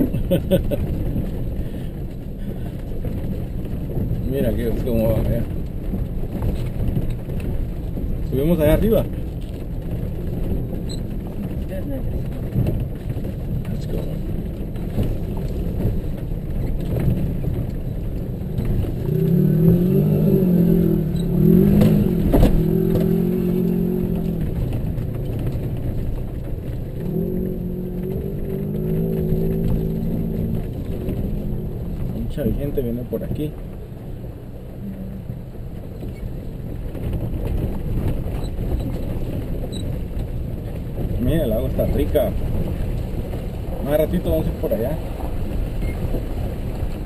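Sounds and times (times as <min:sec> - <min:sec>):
engine and tyres on gravel: 0:00.0 - 0:47.0
knocks and rattles: 0:00.0 - 0:47.0.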